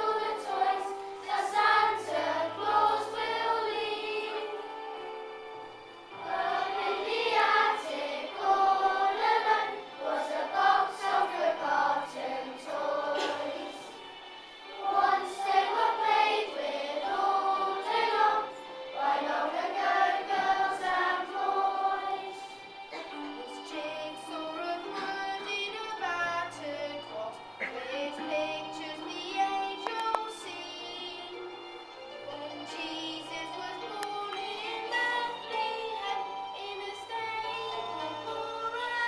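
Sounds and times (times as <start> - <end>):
children's choir singing: 0.0 - 39.0
musical accompaniment: 0.0 - 39.0.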